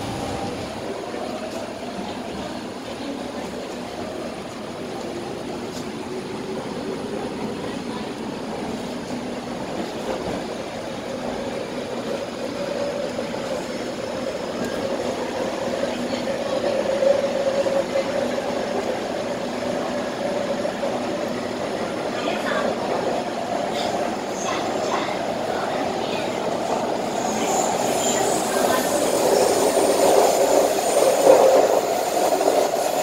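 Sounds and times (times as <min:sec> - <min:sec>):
train rumble with motor hum: 0:00.0 - 0:33.0.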